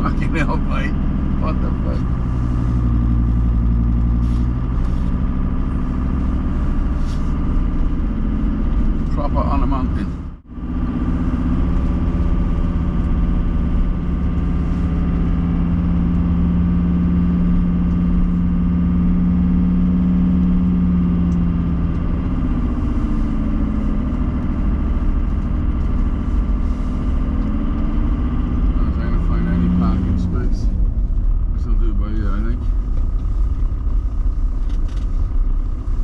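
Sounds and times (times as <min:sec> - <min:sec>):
car engine hum: 0:00.0 - 0:36.0
road noise inside car: 0:00.0 - 0:36.0.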